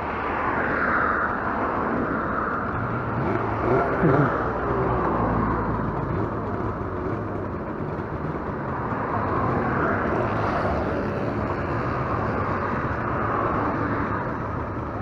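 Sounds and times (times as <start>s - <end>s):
road and traffic noise: 0.0s - 15.0s
motorcycle engine running: 2.6s - 15.0s.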